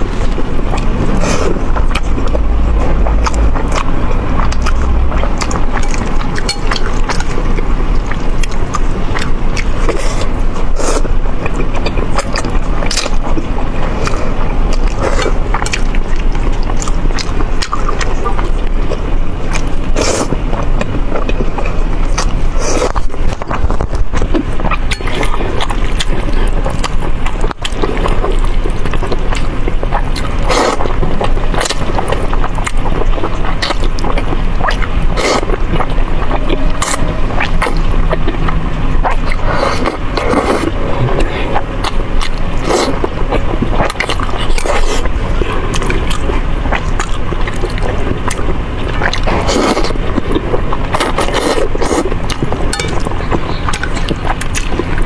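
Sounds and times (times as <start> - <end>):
chewing and slurping noodles: 0.0 - 55.0.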